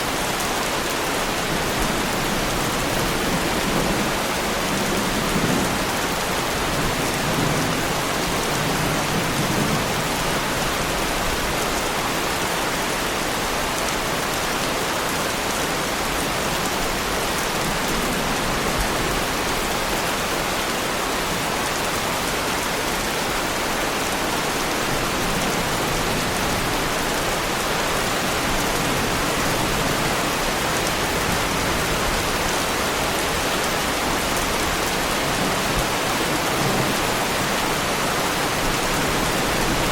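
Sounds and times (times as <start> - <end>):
heavy rain on a car body: 0.0 - 39.9.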